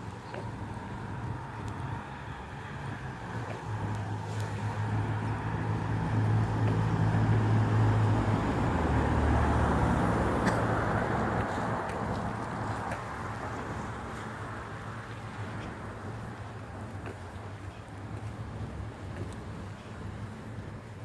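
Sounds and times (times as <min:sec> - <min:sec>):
motor engine humming: 0:00.0 - 0:21.0.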